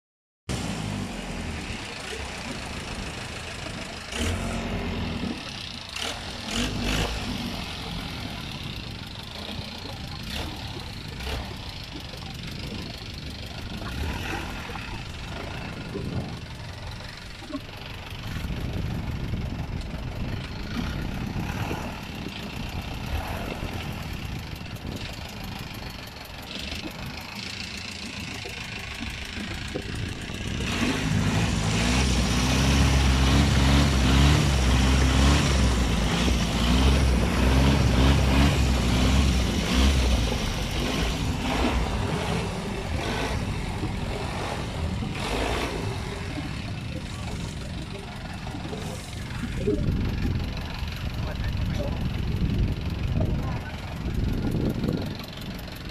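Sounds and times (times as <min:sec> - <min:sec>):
boat engine running: 0:00.5 - 0:55.9
water noise: 0:00.5 - 0:55.9
wind: 0:00.5 - 0:55.9.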